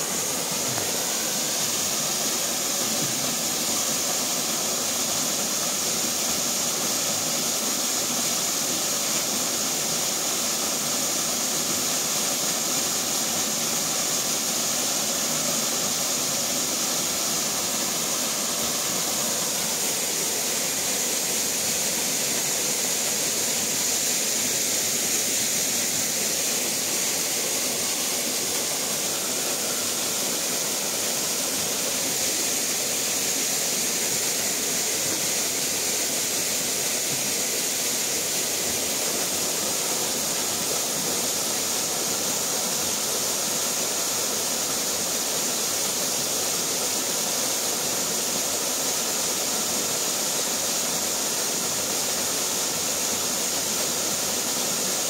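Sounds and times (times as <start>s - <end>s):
waterfall rushing into pool: 0.0s - 55.0s.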